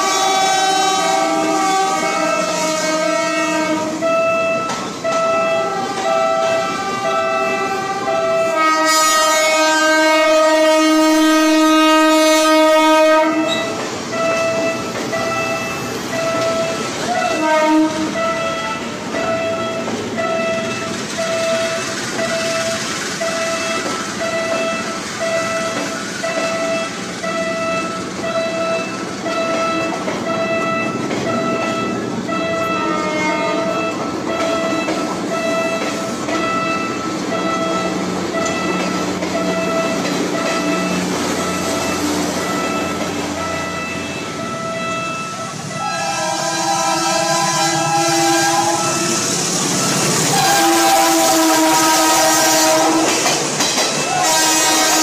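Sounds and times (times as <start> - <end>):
train horn: 0.0 - 14.8, 15.5 - 22.5, 25.5 - 55.0
level-crossing warning bell: 0.0 - 55.0
train wheels clattering: 0.0 - 55.0.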